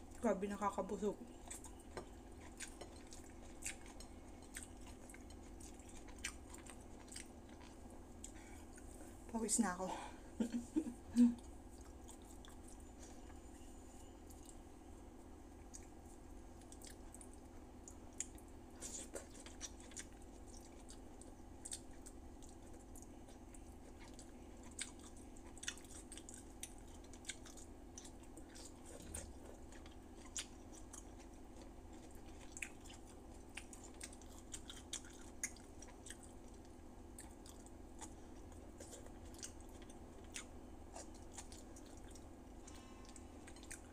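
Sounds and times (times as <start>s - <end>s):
low background hum: 0.0s - 43.9s
soft chewing and mouth sounds: 0.0s - 43.9s.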